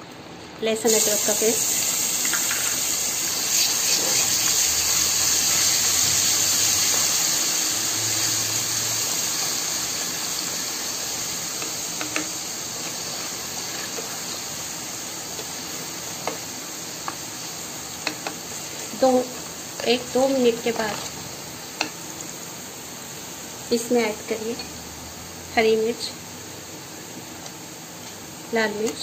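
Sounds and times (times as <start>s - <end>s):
paste sizzling in hot oil: 0.9s - 29.0s.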